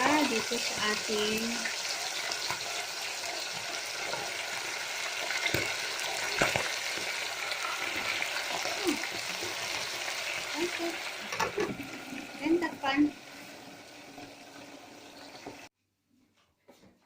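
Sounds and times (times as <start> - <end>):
chicken frying in hot oil: 0.0 - 15.7.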